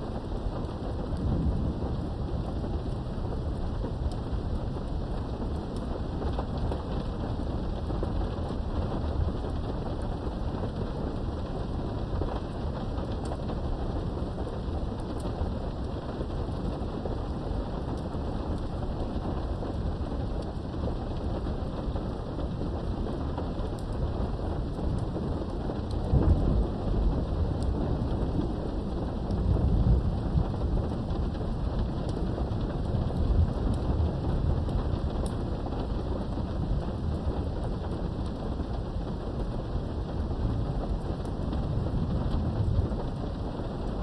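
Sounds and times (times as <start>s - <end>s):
low thunder rumble: 0.0s - 44.0s
rain behind a window: 0.0s - 44.0s.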